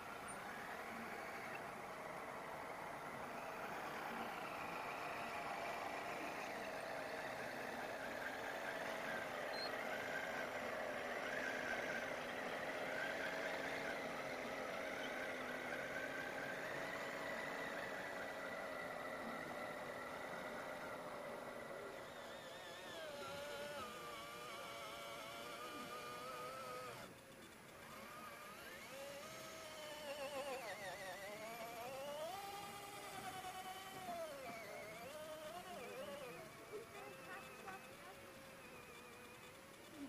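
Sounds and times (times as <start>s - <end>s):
model truck motor whining: 0.0s - 40.0s.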